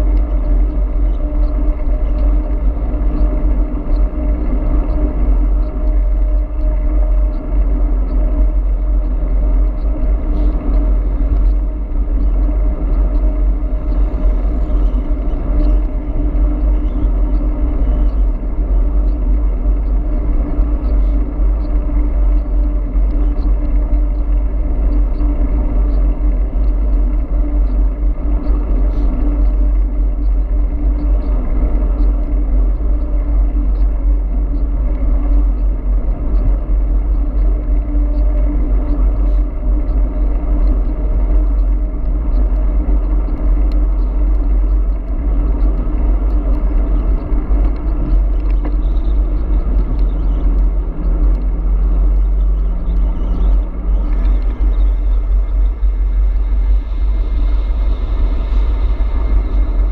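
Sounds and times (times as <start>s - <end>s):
steady hum: 0.0s - 59.9s
wind rushing over microphone: 0.0s - 59.9s.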